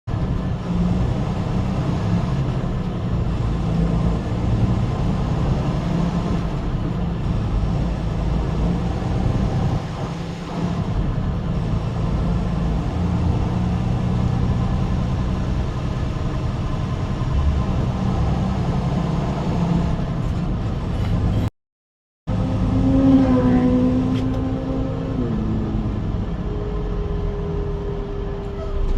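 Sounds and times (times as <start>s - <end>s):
vehicle engine rumble and road noise: 0.1s - 21.5s, 22.3s - 28.9s.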